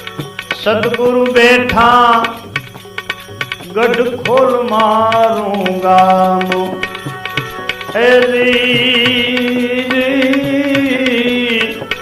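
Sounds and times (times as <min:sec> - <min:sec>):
tabla playing a steady rhythm: 0:00.0 - 0:12.0.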